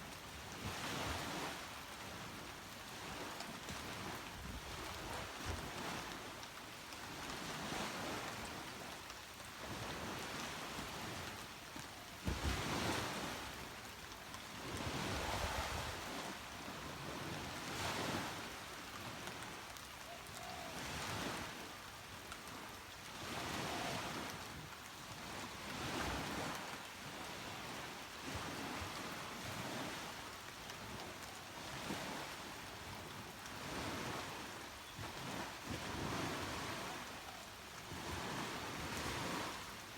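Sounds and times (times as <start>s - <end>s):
small waves breaking: 0.0s - 9.0s, 9.6s - 39.9s.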